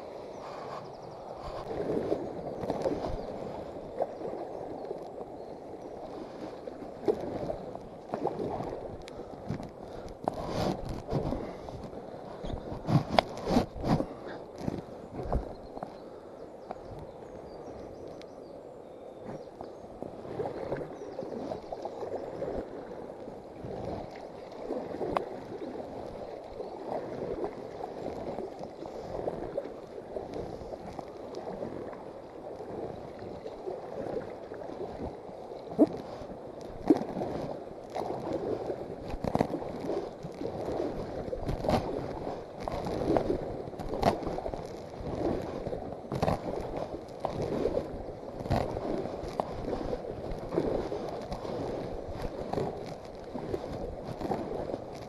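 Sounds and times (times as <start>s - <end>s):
water lapping against kayak hull: 0.0s - 55.0s.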